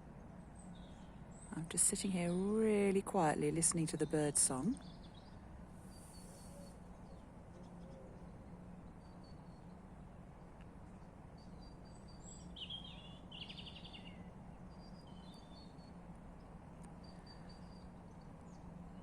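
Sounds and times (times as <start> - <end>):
songbirds singing: 0.1 - 19.0.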